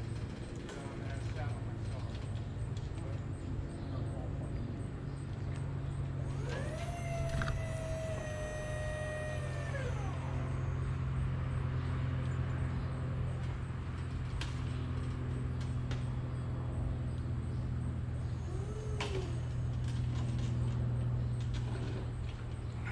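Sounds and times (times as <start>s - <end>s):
low engine drone: 0.0s - 22.9s
motor whine: 3.5s - 22.9s.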